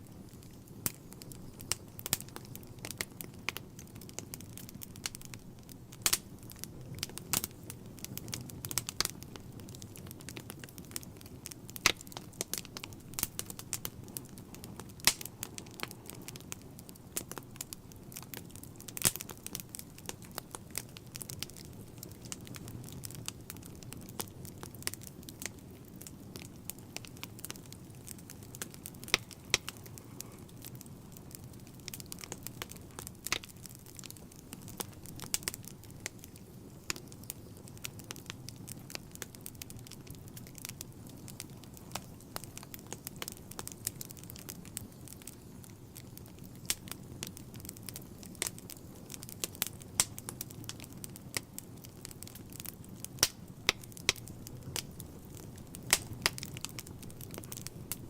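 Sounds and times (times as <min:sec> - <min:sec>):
logs crackling and popping: 0:00.0 - 0:58.0
rumble of fire flames: 0:00.0 - 0:58.0.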